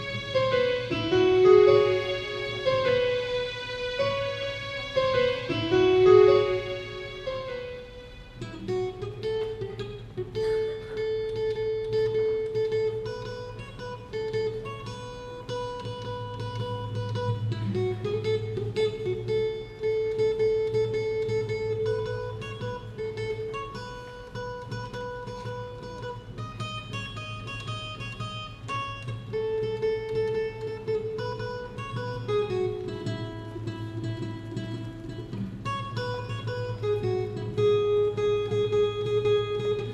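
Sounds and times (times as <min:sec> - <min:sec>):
acoustic guitar melody: 0:00.0 - 0:39.9.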